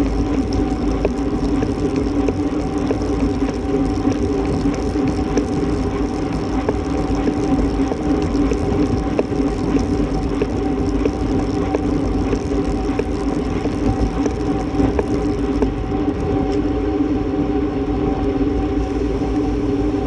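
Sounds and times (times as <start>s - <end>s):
bike tyres rolling on asphalt: 0.0s - 20.0s.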